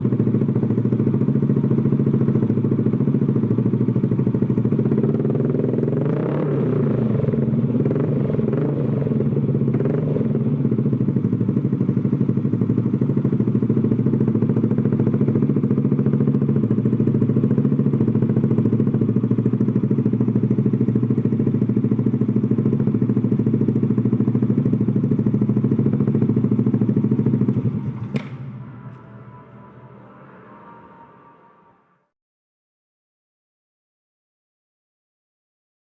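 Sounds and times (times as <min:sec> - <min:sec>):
motorcycle engine idling: 0:00.0 - 0:29.4.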